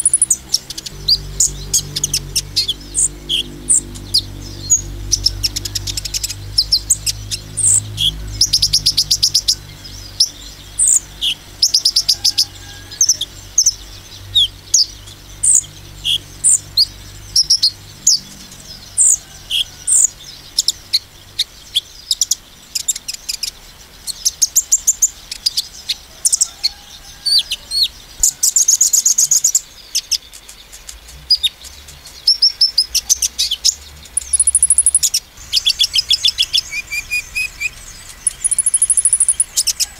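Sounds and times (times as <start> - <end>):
sunbird singing chirps and trills: 0.0 - 39.9.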